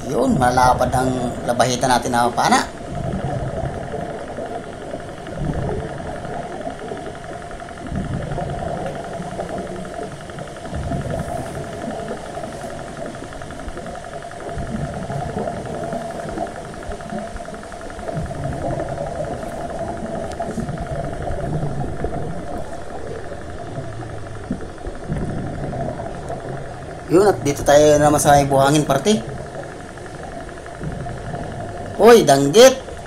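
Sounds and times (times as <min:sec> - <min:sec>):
fine rapid ticking: 0:00.0 - 0:33.0
low rumbling surges: 0:00.0 - 0:33.0
underwater mechanical hum: 0:00.0 - 0:33.0.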